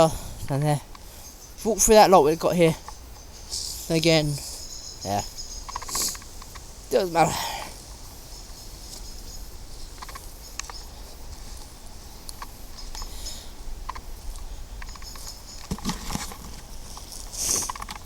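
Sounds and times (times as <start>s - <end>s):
high-pitched insect chirps: 0.0s - 18.0s
footsteps in vegetation: 2.8s - 13.3s, 13.9s - 18.0s.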